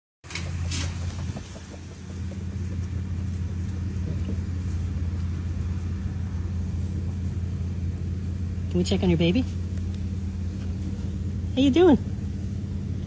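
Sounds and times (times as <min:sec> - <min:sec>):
steady low rumble: 0:00.3 - 0:13.0.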